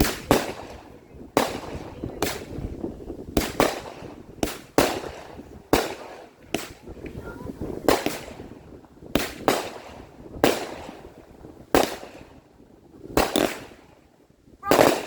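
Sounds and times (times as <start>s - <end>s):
fireworks bangs: 0.0s - 14.0s, 14.6s - 15.0s.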